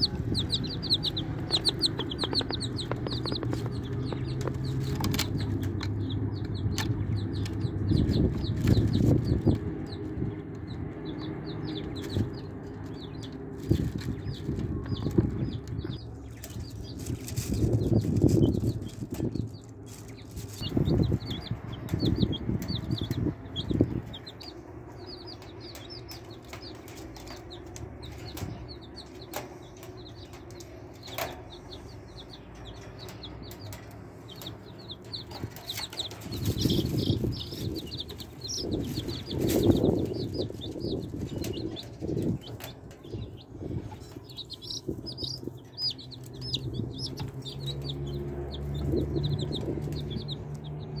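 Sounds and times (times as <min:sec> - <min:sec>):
chicks peeping: 0:00.0 - 0:51.0
low rumbling noise: 0:00.0 - 0:51.0.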